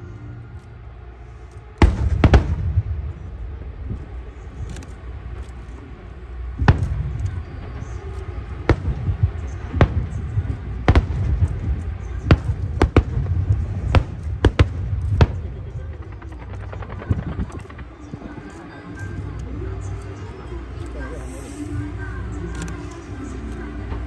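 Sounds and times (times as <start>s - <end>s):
low rumble from fireworks: 0.0s - 24.0s.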